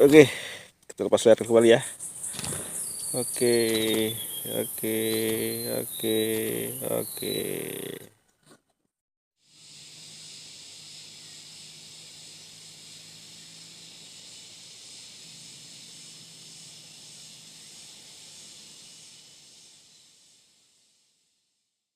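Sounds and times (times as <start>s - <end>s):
insects chorus: 1.2s - 8.1s, 9.5s - 21.2s.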